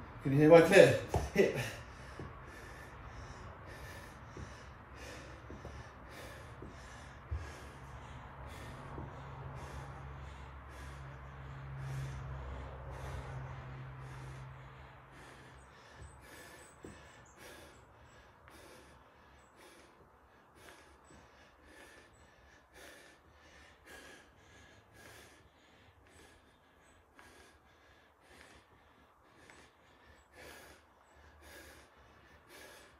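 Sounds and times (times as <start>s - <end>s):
man breathing rhythmically: 0.0s - 32.9s
steady low hum: 0.0s - 32.9s.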